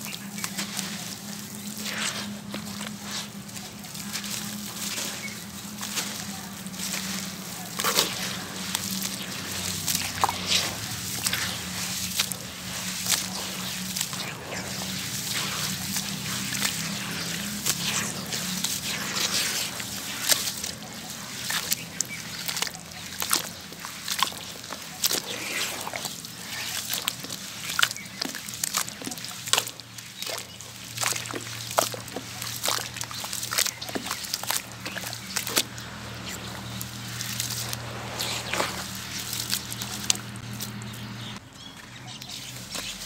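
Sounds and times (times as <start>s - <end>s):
hands squelching wet slurry: 0.0s - 41.4s
slurry trickling into water: 0.4s - 41.4s.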